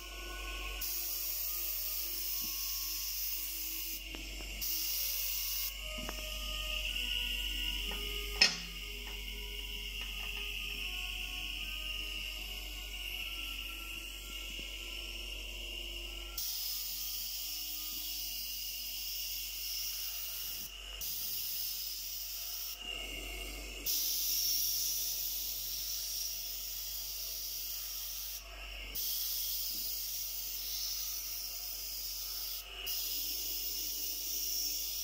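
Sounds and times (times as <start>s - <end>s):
compressed air hissing: 0.0s - 11.0s, 16.2s - 35.0s
compressor humming: 0.0s - 35.0s.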